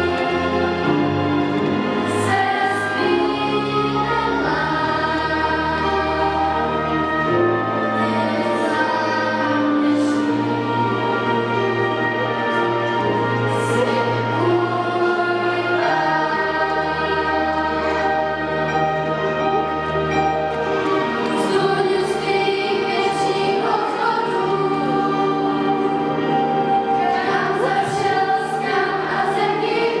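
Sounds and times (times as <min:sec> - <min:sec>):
girls' choir singing: 0:00.0 - 0:30.0
instrumental accompaniment: 0:00.0 - 0:30.0.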